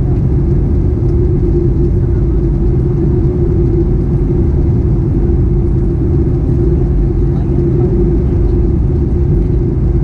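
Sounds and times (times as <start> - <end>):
airplane cabin rumble: 0.0 - 10.0
steady hum: 0.0 - 10.0.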